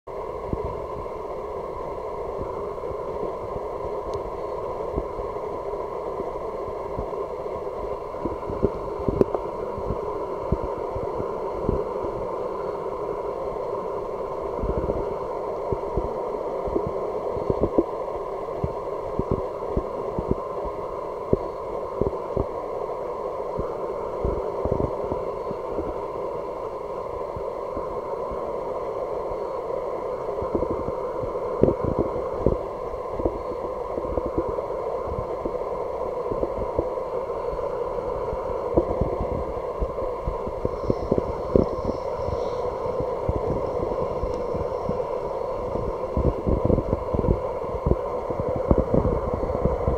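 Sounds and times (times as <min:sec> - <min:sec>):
dull underwater hiss: 0:00.1 - 0:49.9.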